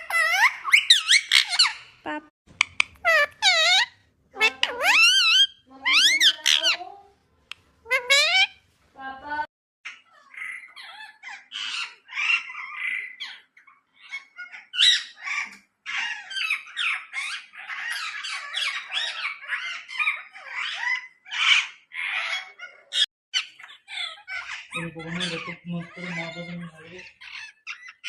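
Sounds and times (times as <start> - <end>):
parrot chattering and squawking: 0.0 - 28.0.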